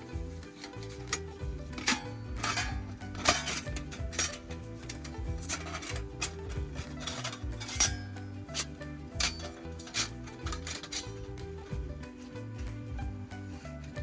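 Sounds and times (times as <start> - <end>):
metal cookware clinking: 0.0 - 12.8
background music: 0.0 - 14.0.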